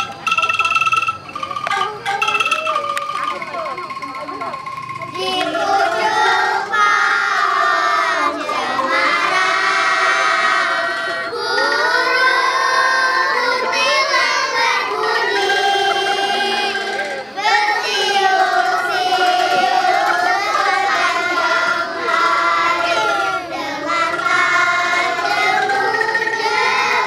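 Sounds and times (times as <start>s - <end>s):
angklung: 0.0s - 27.0s
children's choir singing: 0.0s - 27.0s.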